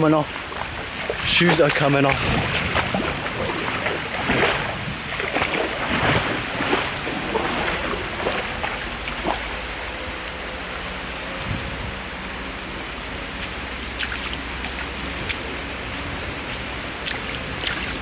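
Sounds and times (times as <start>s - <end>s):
water splashing: 0.0s - 10.4s, 13.2s - 18.0s
stream water rushing: 0.0s - 18.0s.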